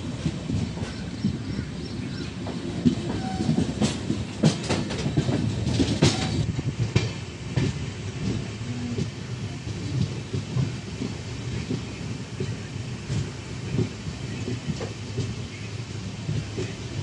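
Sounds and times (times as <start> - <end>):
train coach rumble: 0.0 - 17.0
wheels clacking over rail joints: 0.0 - 17.0.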